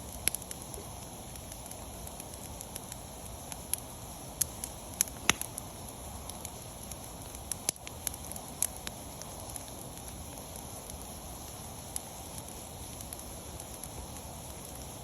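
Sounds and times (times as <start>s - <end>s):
campfire flames rushing: 0.0s - 15.0s
fire crackles and pops: 0.0s - 15.0s.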